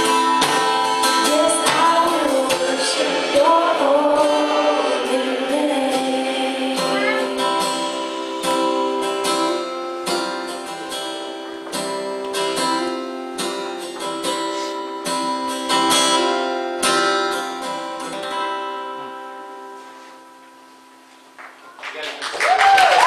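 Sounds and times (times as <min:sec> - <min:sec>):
acoustic guitar strumming chords: 0:00.0 - 0:21.8.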